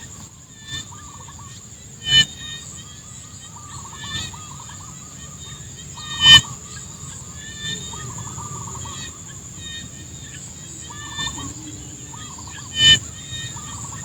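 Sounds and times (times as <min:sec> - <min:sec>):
high-pitched insect drone: 0:00.0 - 0:14.0
short wavering animal calls: 0:00.7 - 0:14.0.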